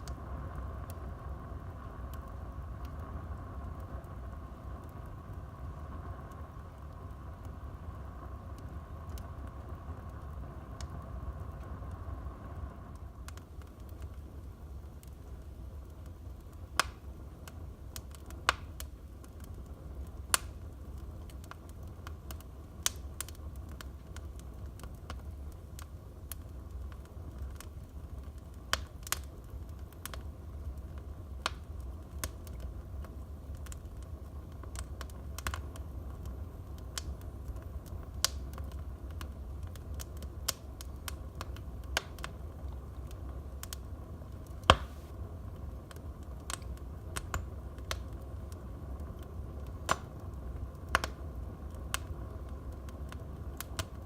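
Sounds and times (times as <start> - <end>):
crackles and pops of burning logs: 0.0 - 54.0
low rumble of flames: 0.0 - 54.0.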